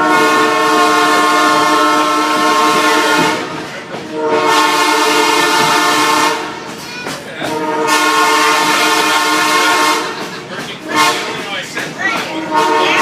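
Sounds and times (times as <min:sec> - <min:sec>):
train horn blasts: 0:00.0 - 0:06.6, 0:07.4 - 0:10.2, 0:10.8 - 0:11.5, 0:12.4 - 0:13.0.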